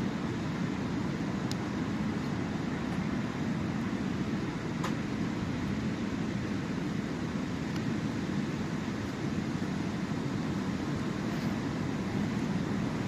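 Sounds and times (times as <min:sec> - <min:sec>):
surf rumbling on shore: 0:00.0 - 0:13.0.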